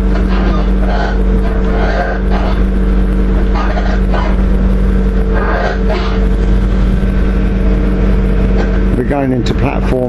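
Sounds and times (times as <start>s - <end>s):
traction equipment drone: 0.0s - 10.0s.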